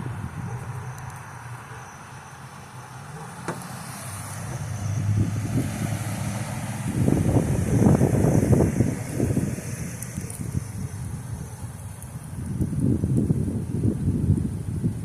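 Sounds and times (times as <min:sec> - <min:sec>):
wind gusts buffeting microphone: 0:00.0 - 0:01.4, 0:03.3 - 0:15.0
road vehicle rumble: 0:00.0 - 0:15.0.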